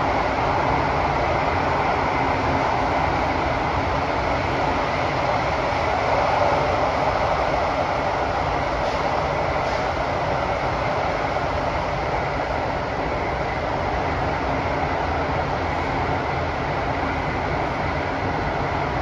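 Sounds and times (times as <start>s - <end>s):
metro train rumbling in tunnel: 0.0s - 19.0s.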